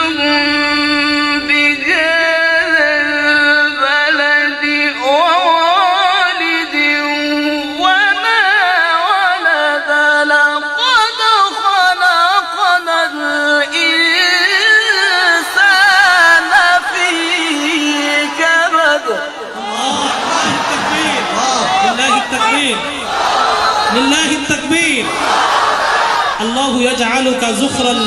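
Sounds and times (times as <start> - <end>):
man chanting recitation: 0.0 - 23.2, 23.9 - 25.2.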